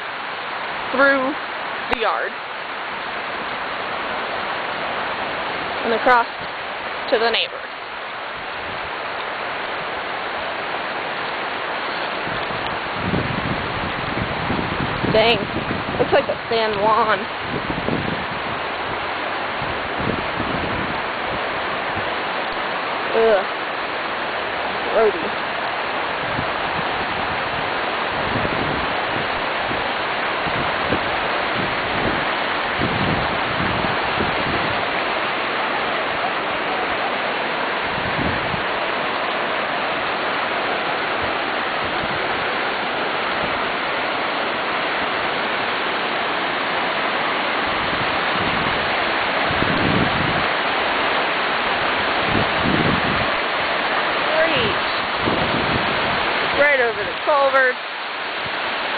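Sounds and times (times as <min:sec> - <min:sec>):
floodwater rushing: 0:00.0 - 0:58.9.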